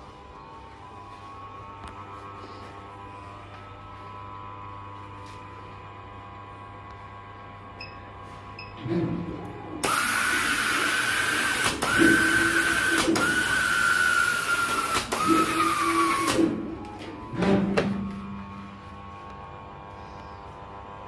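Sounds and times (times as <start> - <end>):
machine drive hum: 0.0 - 21.0.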